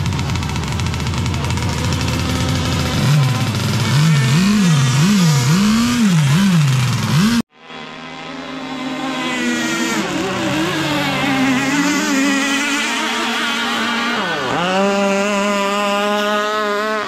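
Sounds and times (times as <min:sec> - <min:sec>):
two-stroke engine at high revs: 0:00.0 - 0:17.0.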